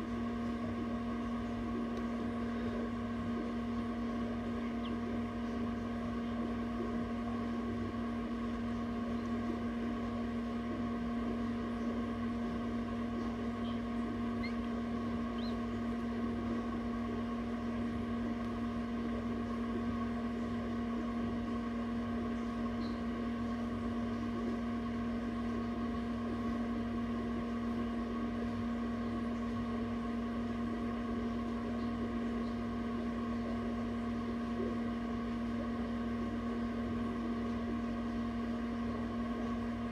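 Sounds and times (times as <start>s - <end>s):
fan motor humming: 0.0s - 39.9s.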